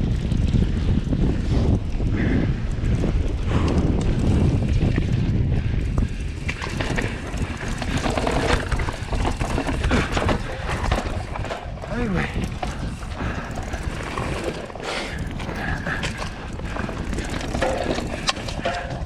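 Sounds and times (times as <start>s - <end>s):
bike rattling over bumps: 0.0s - 19.0s
wind and tyres rumbling: 0.0s - 19.0s.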